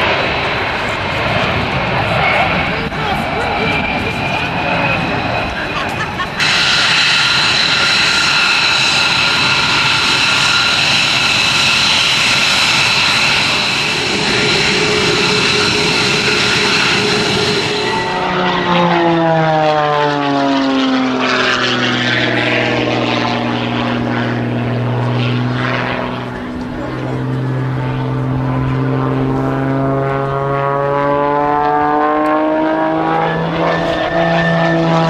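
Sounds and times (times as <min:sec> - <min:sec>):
aircraft engine whine: 0:00.0 - 0:35.0
propeller engine drone: 0:00.0 - 0:35.0.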